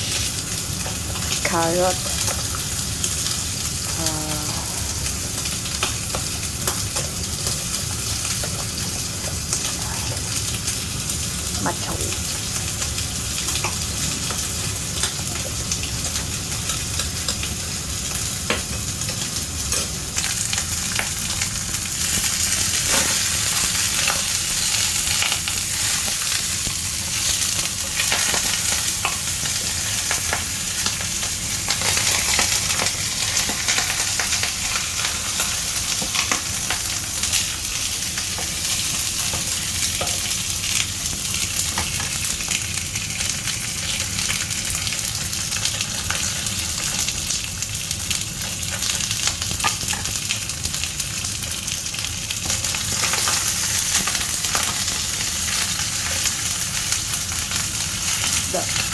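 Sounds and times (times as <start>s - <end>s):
food sizzling in hot oil: 0.0s - 58.9s.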